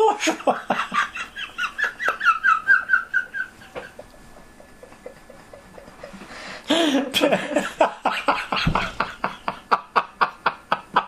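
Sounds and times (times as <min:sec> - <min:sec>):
person laughing: 0:00.0 - 0:11.0.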